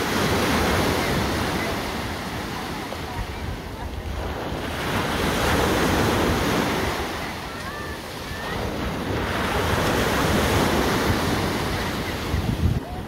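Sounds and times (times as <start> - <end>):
small waves breaking on sand: 0.0 - 13.0
wind rumbling on microphone: 0.0 - 13.0.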